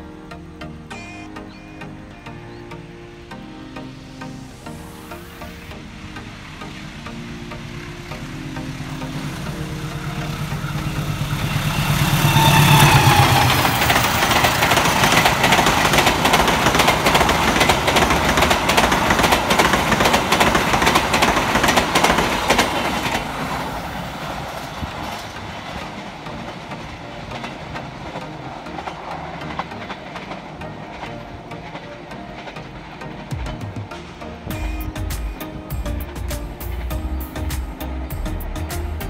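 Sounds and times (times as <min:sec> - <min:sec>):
diesel locomotive passing: 0:00.0 - 0:39.0
train wheels clicking on rail joints: 0:06.6 - 0:39.0.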